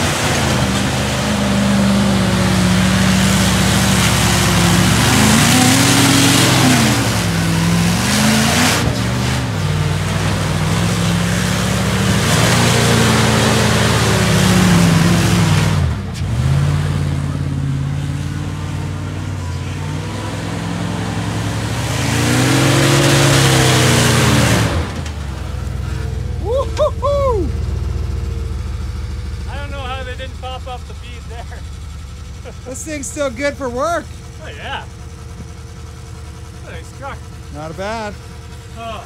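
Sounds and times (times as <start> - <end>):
pickup engine revving: 0.0 - 39.0.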